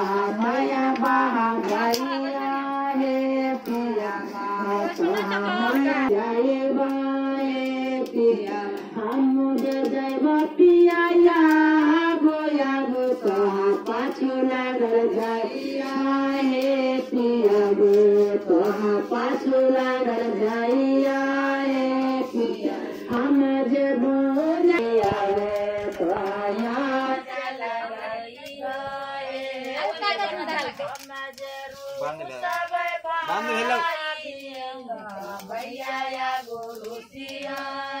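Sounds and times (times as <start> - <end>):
women singing together: 0.0 - 38.0.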